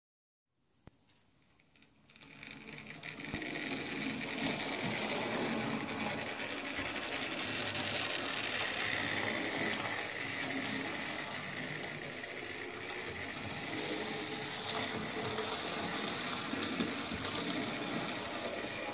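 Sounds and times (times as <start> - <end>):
wheels on rails: 1.4 - 18.9
model train motor whirring: 1.5 - 18.9.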